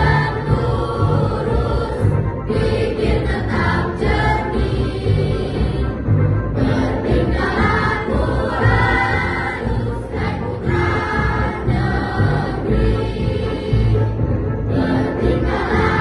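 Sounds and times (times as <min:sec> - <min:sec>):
accompaniment with strong bass: 0:00.0 - 0:16.0
children's choir singing: 0:00.0 - 0:16.0.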